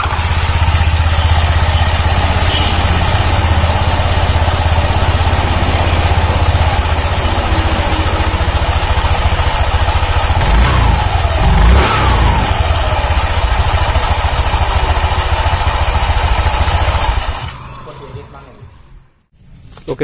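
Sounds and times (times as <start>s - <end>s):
scooter engine idling: 0.0s - 17.6s.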